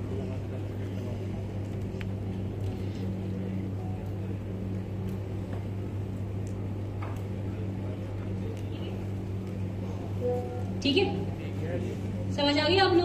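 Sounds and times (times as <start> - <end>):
low hum in large hall: 0.0 - 13.0.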